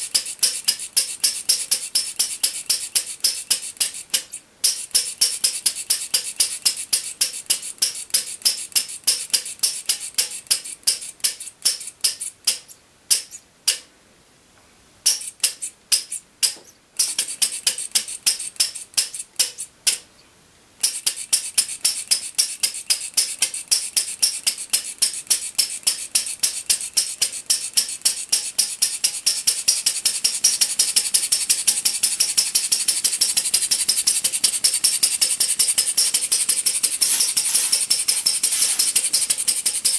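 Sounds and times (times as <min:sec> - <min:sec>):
small engine clicking: 0:00.0 - 0:13.9, 0:15.0 - 0:20.0, 0:20.8 - 0:39.9.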